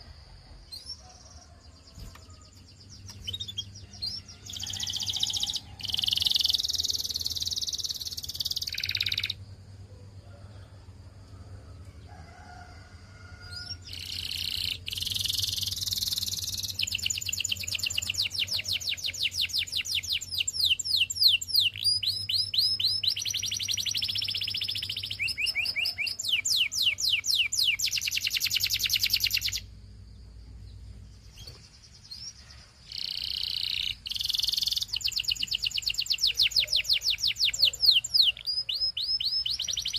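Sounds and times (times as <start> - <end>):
canary singing trills: 0.7 - 9.5, 13.4 - 29.8, 30.5 - 39.9.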